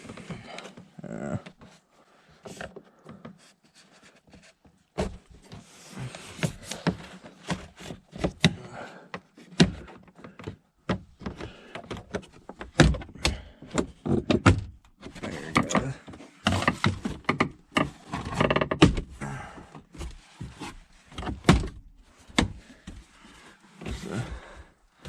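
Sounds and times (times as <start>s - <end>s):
clicks knocks and rustling of wiring: 2.4s - 23.1s.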